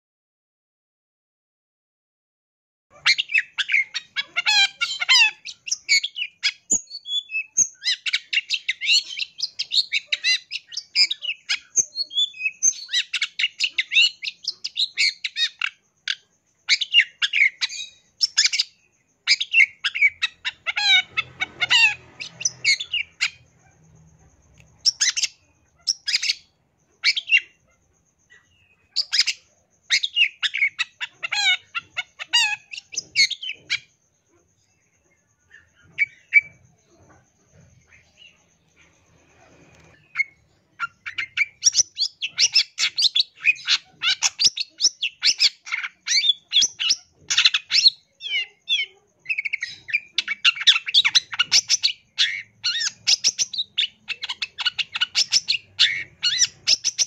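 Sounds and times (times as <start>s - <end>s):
shrike singing chattering song: 2.9s - 57.0s.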